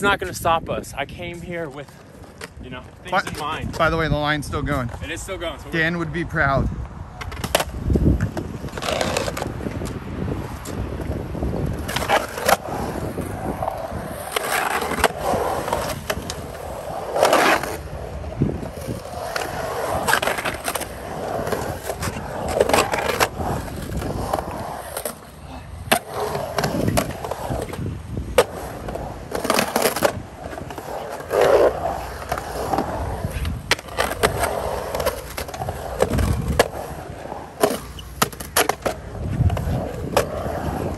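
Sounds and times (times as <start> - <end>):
skateboard wheels rolling on concrete: 0.0 - 40.9
skateboard trucks clacking and grinding: 7.1 - 40.9.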